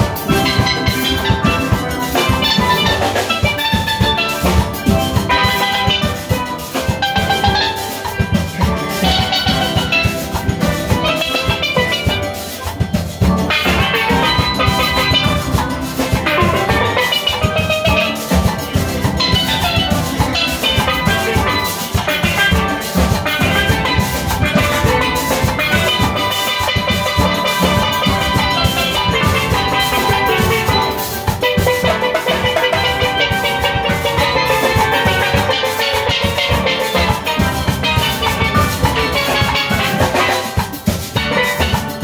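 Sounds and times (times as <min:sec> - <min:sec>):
drum and percussion beat: 0:00.0 - 0:42.0
steelpans playing: 0:00.0 - 0:42.0.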